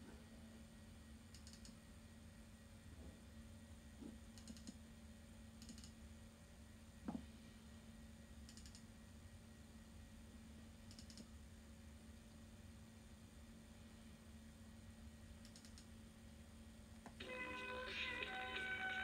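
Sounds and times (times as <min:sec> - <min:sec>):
computer low hum: 0:00.0 - 0:19.0.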